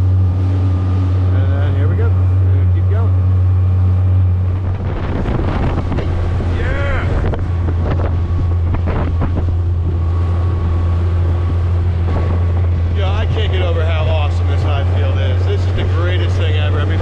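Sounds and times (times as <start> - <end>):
outboard motor droning: 0.0 - 17.0
water rushing along hull: 0.0 - 17.0
wind buffeting microphone: 0.0 - 17.0.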